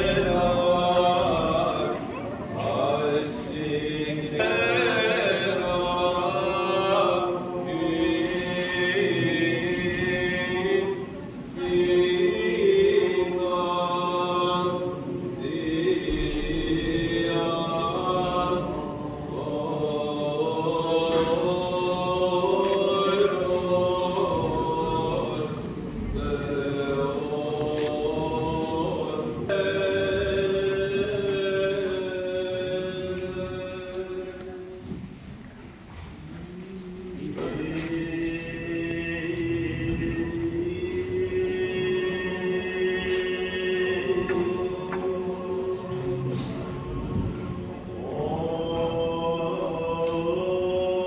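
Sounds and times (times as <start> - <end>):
voices chanting slow melody: 0.0 - 51.0.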